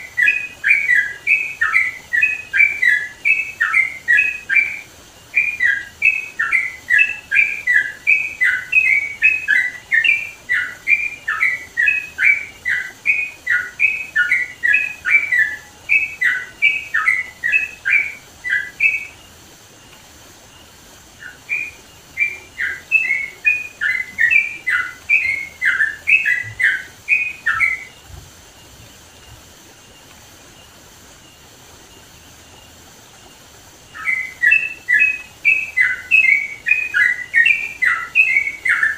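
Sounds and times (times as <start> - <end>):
bird singing whistled notes: 0.0 - 19.3, 20.5 - 29.4, 33.8 - 38.9.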